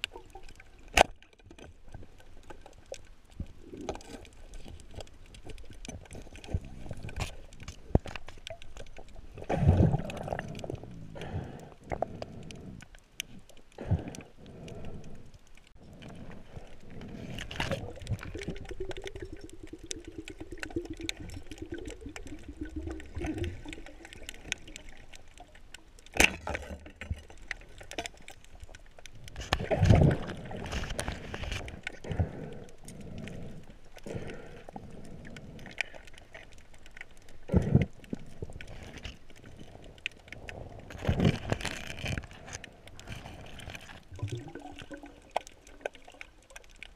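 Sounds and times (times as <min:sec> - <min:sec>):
underwater water gurgling: 0:00.0 - 0:46.9.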